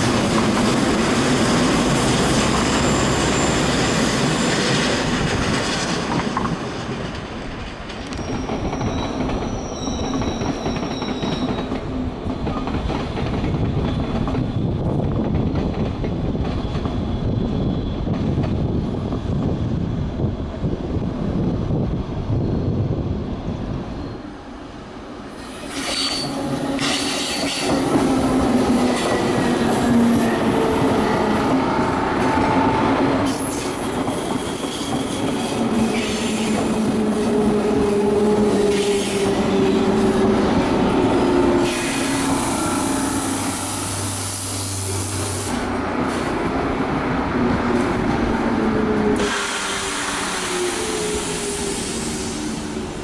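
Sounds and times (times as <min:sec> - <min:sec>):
train wheels whining on rails: 0:00.0 - 0:53.0.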